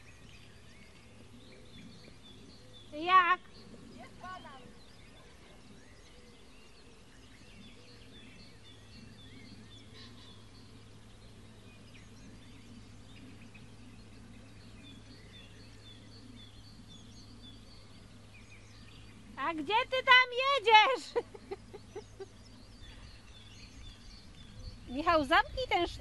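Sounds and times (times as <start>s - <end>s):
faint background noise: 0.0s - 26.0s
low steady hum: 0.0s - 26.0s
small birds chirping: 0.0s - 26.0s.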